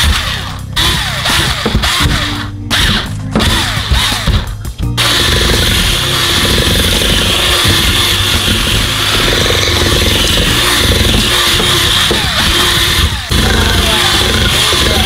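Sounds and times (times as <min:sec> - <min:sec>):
cordless drill mixing dough: 0:00.0 - 0:15.0.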